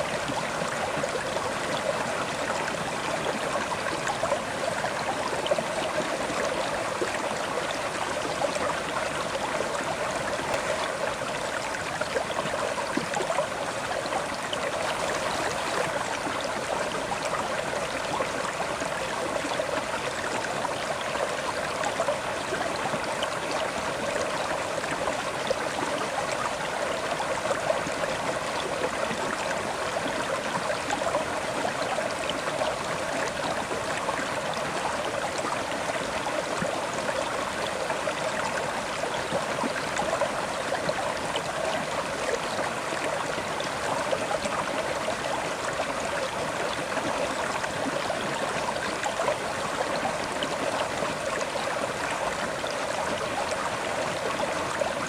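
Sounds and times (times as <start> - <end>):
river water over rocks: 0.0 - 55.0.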